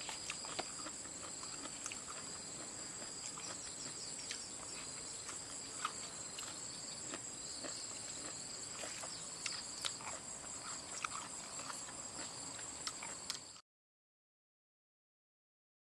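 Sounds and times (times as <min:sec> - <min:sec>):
insects chirping: 0:00.0 - 0:13.6.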